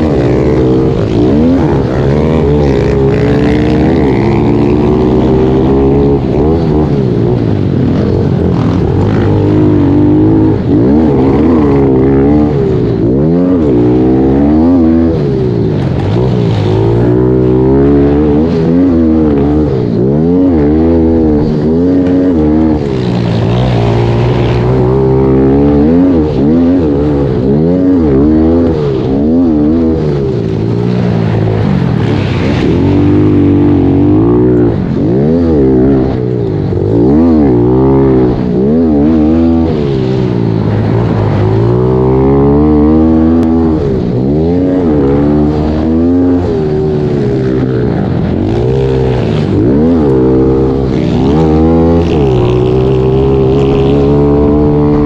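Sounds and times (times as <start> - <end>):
pit bike engine revving: 0.0 - 55.0.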